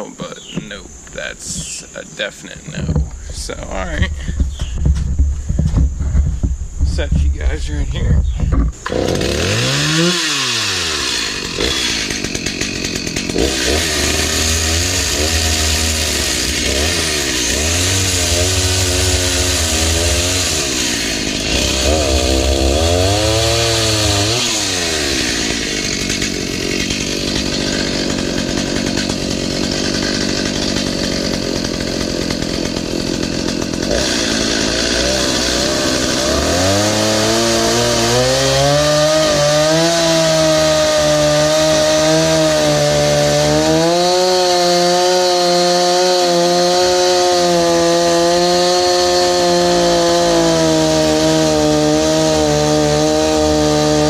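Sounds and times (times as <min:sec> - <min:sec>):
chainsaw cutting wood: 0:08.5 - 0:54.0.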